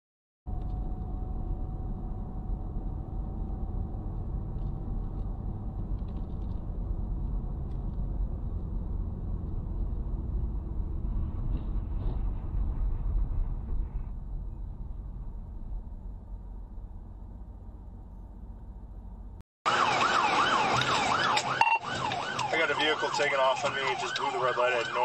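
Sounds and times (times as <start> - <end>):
car road and engine rumble: 0.5 - 25.0.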